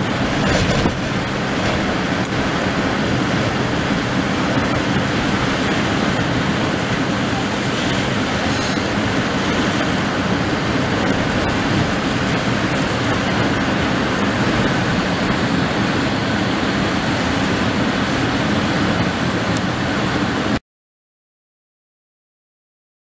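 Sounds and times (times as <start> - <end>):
waves breaking against rocks: 0.0 - 19.6
strong wind buffeting microphone: 0.0 - 20.6.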